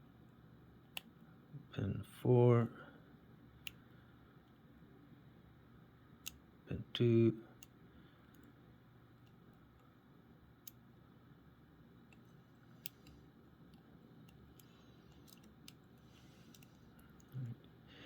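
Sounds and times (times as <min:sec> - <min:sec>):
low room hiss: 0:00.0 - 0:18.0.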